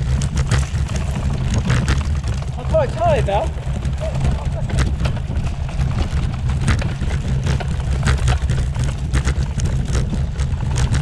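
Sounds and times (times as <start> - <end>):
bicycle rumbling over cobblestones: 0.0 - 11.0
sharp wheel rattles: 0.0 - 11.0.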